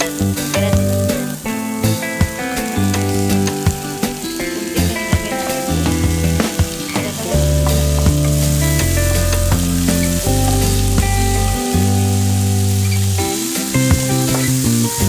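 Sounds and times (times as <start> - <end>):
background music with bass line: 0.0 - 15.0
food sizzling in a hot pan: 0.0 - 15.0.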